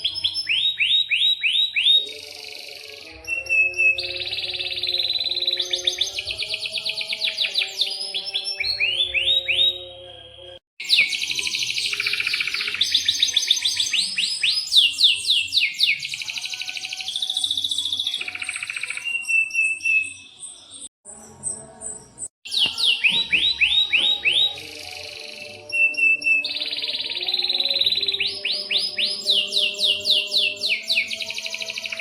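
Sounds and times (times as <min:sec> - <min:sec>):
canary singing in trills: 0:00.0 - 0:32.0.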